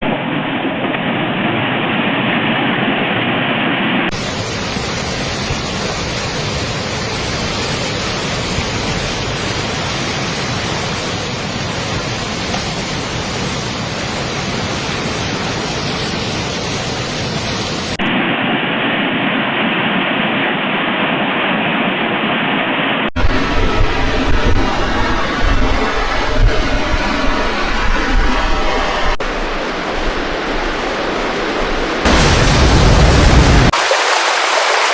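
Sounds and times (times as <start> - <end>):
water rushing: 0.0 - 19.3, 23.2 - 34.9.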